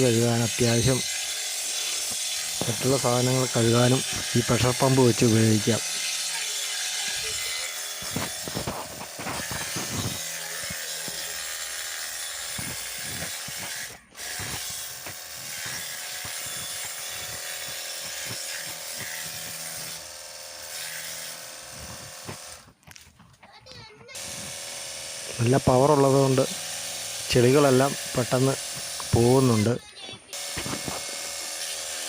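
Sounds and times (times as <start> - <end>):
pressure washer spray hissing: 0.0 - 22.6, 24.2 - 32.0.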